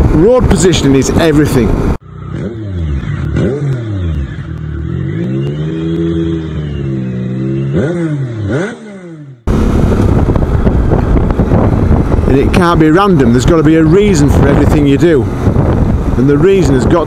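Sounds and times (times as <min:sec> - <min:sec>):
road noise: 0:00.0 - 0:17.0
wind: 0:00.0 - 0:17.0
engine revving: 0:01.7 - 0:17.0.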